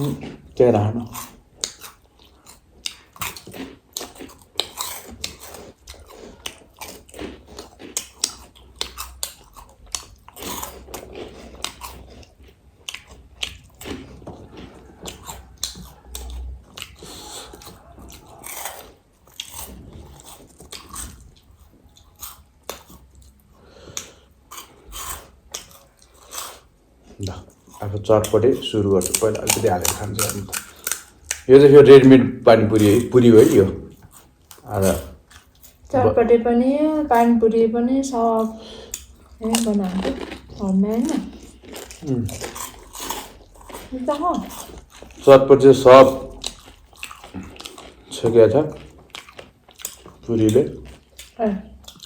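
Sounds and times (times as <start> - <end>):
chewing crispy snacks: 0.0 - 36.0, 38.1 - 52.0.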